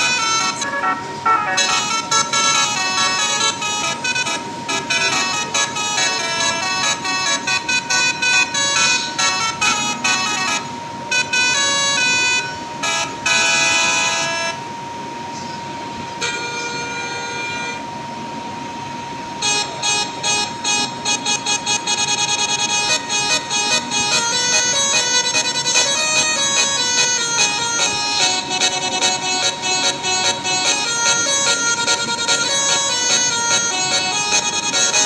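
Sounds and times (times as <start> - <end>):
multi-tone bus horn tune: 0.0 - 14.7, 16.1 - 18.0, 18.8 - 35.0.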